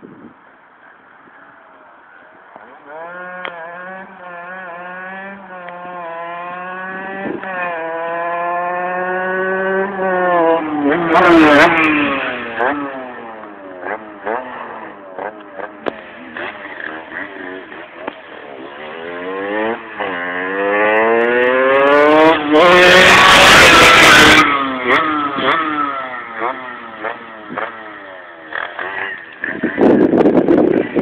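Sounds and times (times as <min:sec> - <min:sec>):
moped two-stroke engine revving: 0:02.8 - 0:31.0.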